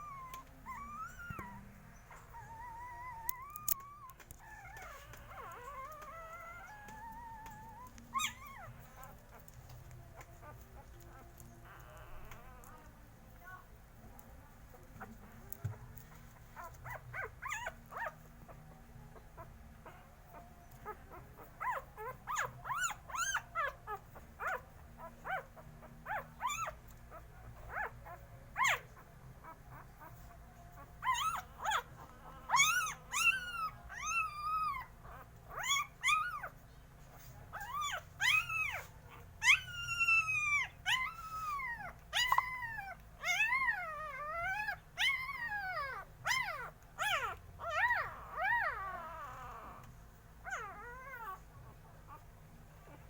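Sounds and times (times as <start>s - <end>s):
puppies whining and yelping: 0.0s - 13.6s, 14.7s - 53.0s.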